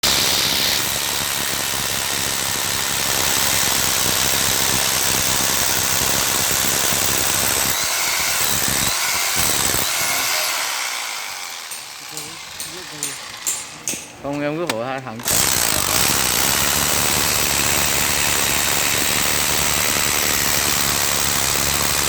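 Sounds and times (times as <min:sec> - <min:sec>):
rotary hammer motor running: 0:00.0 - 0:14.1, 0:15.0 - 0:22.0.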